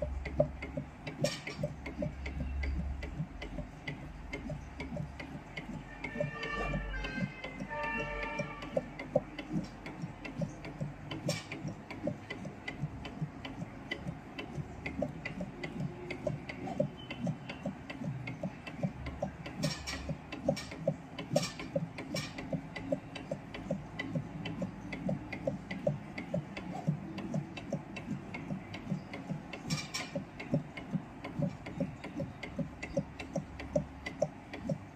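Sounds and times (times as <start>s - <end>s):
low machine hum: 0.0s - 34.9s
machine mechanical ticking: 0.0s - 34.9s.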